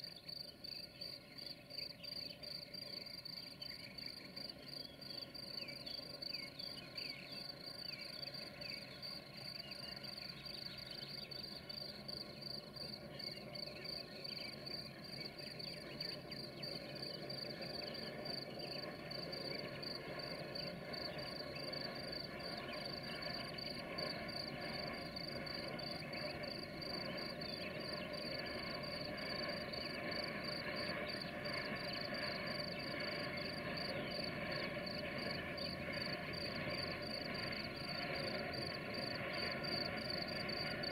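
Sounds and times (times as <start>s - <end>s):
crickets chirping: 0.0s - 40.9s
distant diesel locomotives droning: 0.0s - 40.9s.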